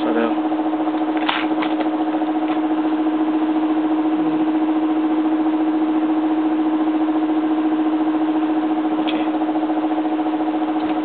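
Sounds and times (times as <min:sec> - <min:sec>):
air pump pulsing hum: 0:00.0 - 0:11.0.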